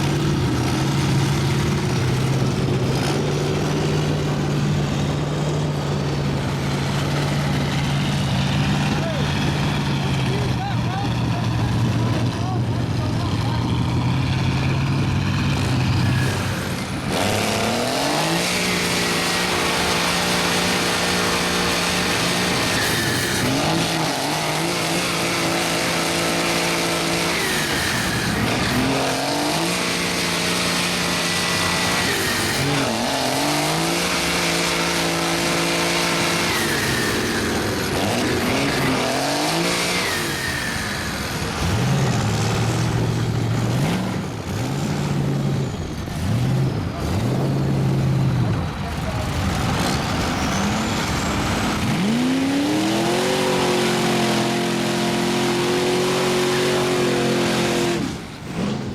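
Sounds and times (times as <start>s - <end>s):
truck engine revving hard: 0.0s - 58.9s.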